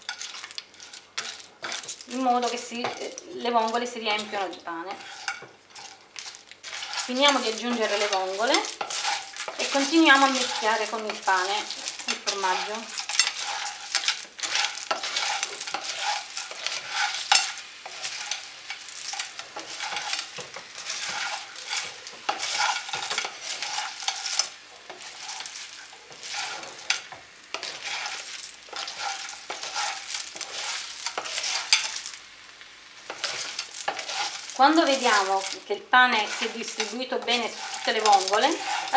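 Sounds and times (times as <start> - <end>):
shells clattering in a pan: 0.0 - 32.3, 33.1 - 38.9
pan sizzling: 0.0 - 38.9.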